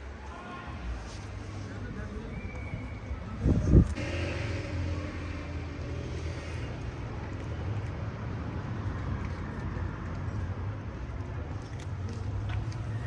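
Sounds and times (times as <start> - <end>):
low hum of traffic: 0.0 - 13.0.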